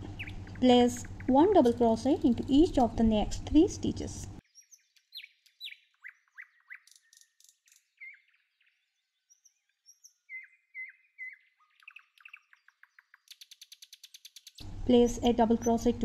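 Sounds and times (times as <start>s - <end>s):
faint bird chirping: 0.0s - 3.4s, 4.4s - 16.0s.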